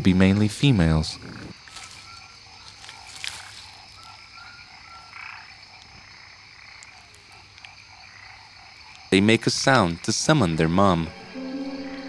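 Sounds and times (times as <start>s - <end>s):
frogs croaking: 0.0s - 12.0s.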